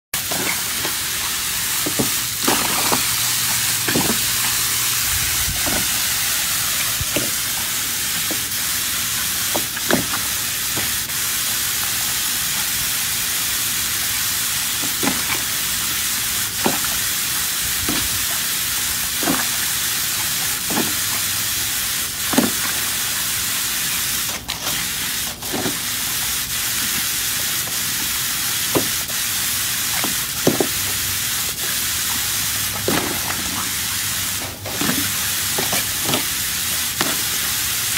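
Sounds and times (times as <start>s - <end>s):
puppy splashing: 0.2s - 12.9s, 14.7s - 26.1s, 29.8s - 37.9s
hose nozzle spraying water: 0.2s - 37.9s
water pouring into plastic pool: 0.2s - 37.9s.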